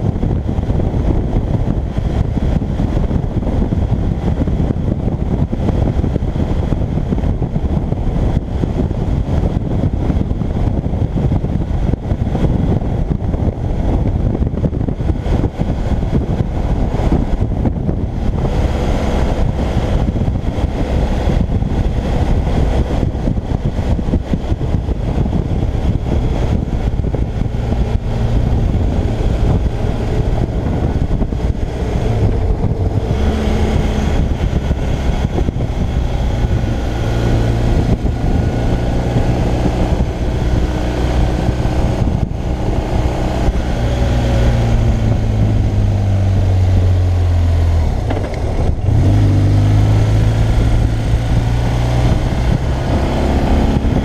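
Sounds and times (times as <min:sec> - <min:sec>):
motorcycle engine: 0:00.0 - 0:54.0
wind noise: 0:00.0 - 0:54.0.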